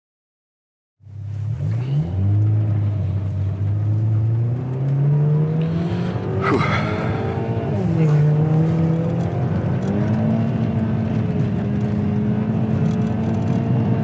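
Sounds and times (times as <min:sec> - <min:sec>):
car engine heard from inside: 0:01.0 - 0:14.0.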